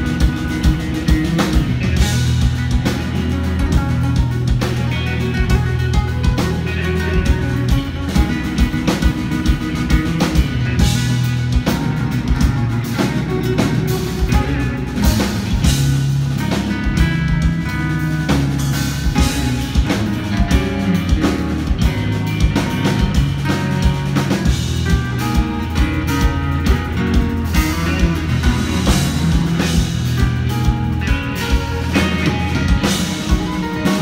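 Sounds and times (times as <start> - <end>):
drum kit: 0.0 - 34.0
electric guitars: 0.0 - 34.0.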